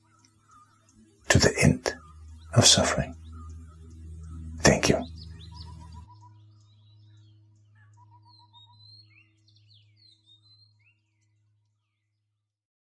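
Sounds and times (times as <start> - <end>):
low steady hum: 0.0 - 11.4
faint birds chirping: 0.0 - 12.5.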